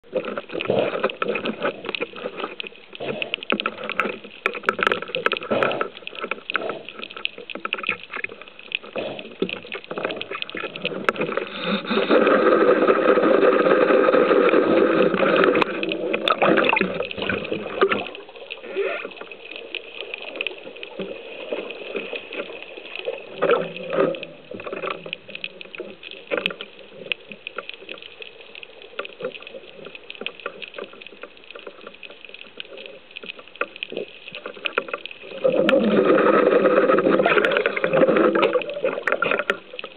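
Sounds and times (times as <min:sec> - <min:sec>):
underwater bubbling: 0:00.0 - 0:39.9
underwater watery rush: 0:00.0 - 0:39.9.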